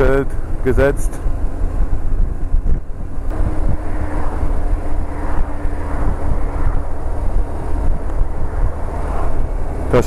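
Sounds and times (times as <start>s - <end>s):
motorcycle engine drone: 0.0s - 10.0s
wind noise on microphone: 0.0s - 10.0s.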